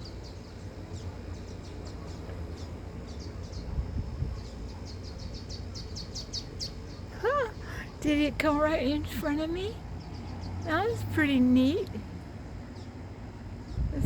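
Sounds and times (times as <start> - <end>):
low steady rumble: 0.0 - 14.0
small birds chirping: 0.0 - 14.0.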